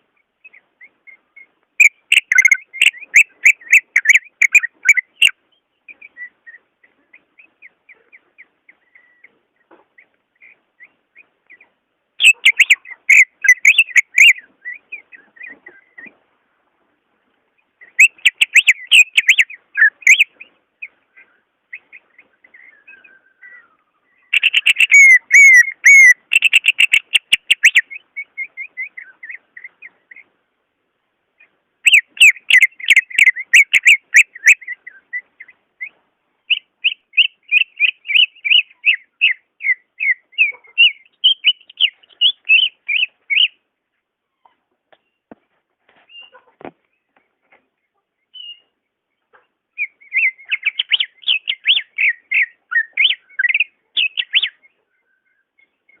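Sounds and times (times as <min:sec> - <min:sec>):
bird singing whistled notes: 0:00.2 - 0:07.8, 0:08.7 - 0:09.4, 0:10.4 - 0:16.0, 0:17.8 - 0:30.3, 0:31.8 - 0:43.6, 0:48.2 - 0:48.7, 0:49.8 - 0:56.0.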